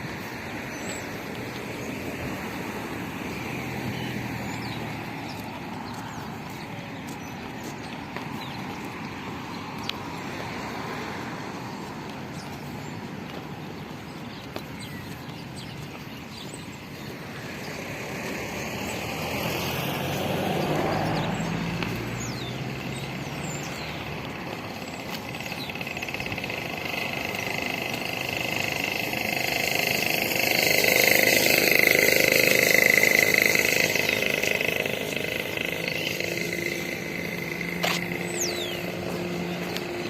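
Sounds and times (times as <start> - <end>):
road vehicle engine and tyres: 0.0 - 40.0.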